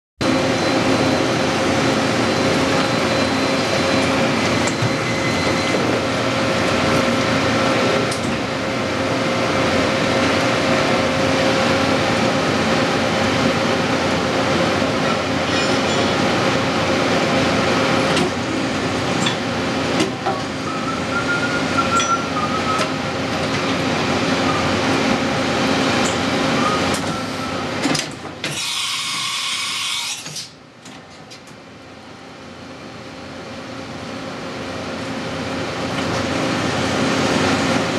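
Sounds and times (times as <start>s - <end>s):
machining centre humming: 0.2s - 37.9s.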